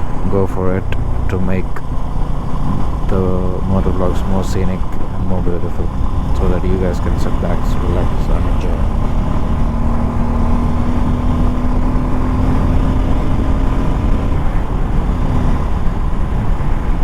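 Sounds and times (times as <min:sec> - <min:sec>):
motorcycle engine hum: 0:00.0 - 0:17.0
steady drone: 0:00.0 - 0:17.0
wind rumble on microphone: 0:00.0 - 0:17.0.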